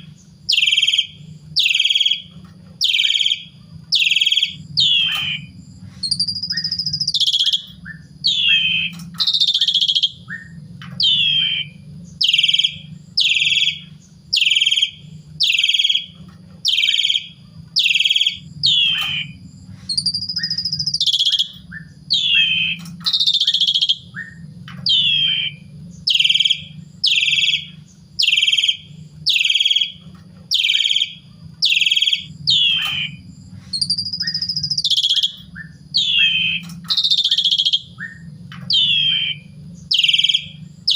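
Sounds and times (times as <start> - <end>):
bird whistling song: 0.0 - 40.9
steady low hum: 0.0 - 40.9.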